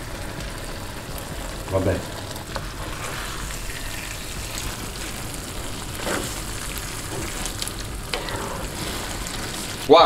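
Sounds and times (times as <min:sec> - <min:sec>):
sauce sizzling in a frying pan: 0:00.0 - 0:10.0.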